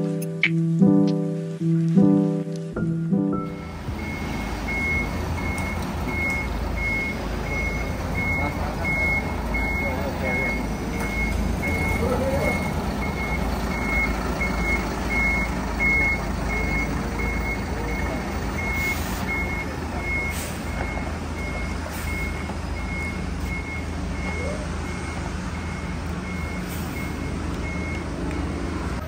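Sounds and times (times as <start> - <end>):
diesel engine running: 2.8 - 29.0
reversing alarm beeping: 3.4 - 28.7.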